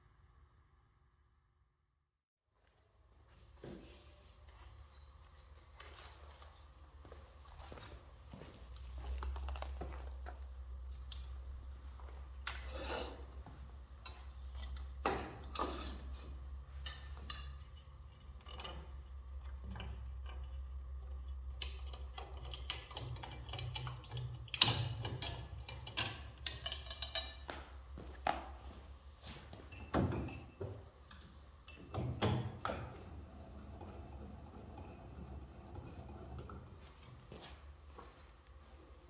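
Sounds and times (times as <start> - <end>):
low steady hum: 2.6 - 39.0.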